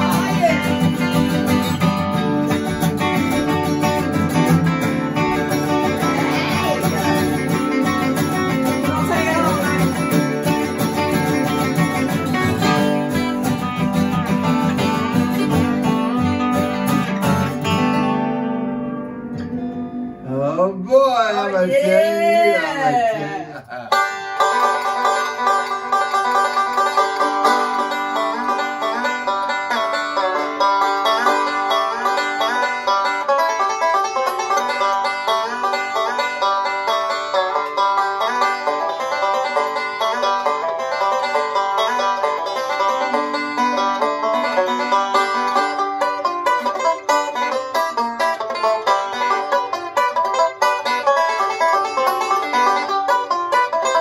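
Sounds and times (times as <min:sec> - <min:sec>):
banjo picking rapid notes: 0:00.0 - 0:19.9, 0:23.9 - 0:54.0.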